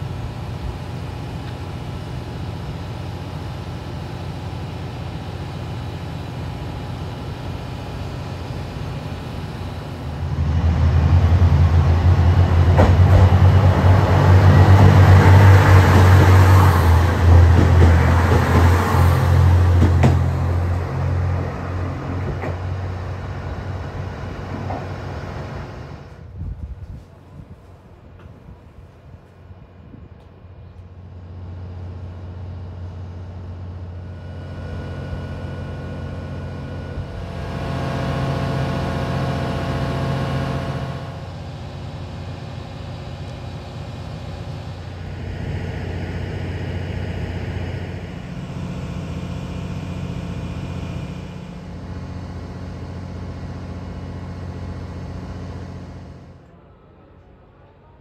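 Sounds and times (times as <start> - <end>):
train engine humming: 0.0 - 58.0.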